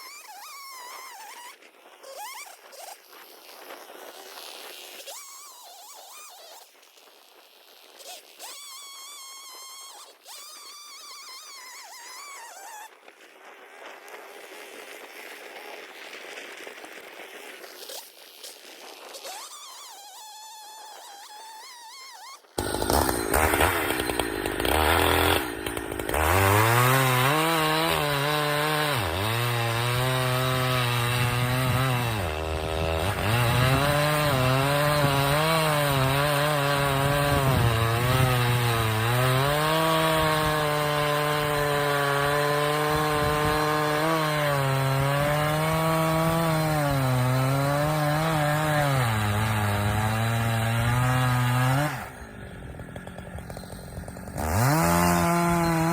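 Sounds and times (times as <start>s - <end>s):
chainsaw cutting log: 0.0s - 13.0s, 17.6s - 55.9s.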